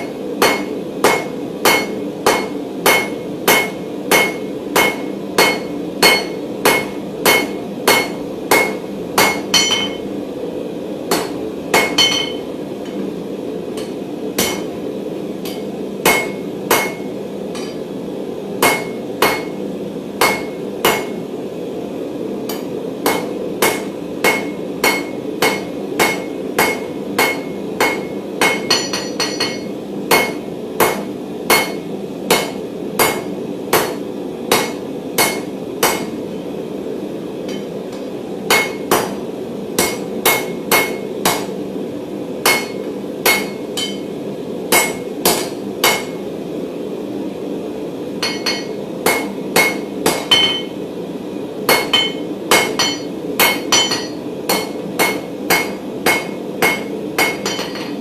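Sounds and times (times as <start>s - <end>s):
hammer striking steel on anvil: 0.0s - 10.1s, 11.1s - 13.1s, 13.7s - 14.8s, 15.4s - 17.9s, 18.6s - 19.6s, 20.2s - 21.2s, 22.5s - 36.2s, 37.5s - 39.2s, 39.8s - 41.5s, 42.4s - 46.2s, 48.2s - 50.8s, 51.7s - 58.0s.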